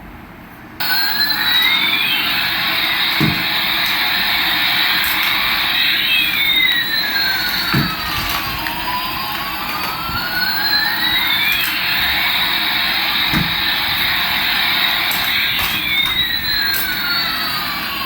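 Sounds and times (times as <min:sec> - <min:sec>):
toy jet engine hiss and whistle: 0:00.8 - 0:18.0.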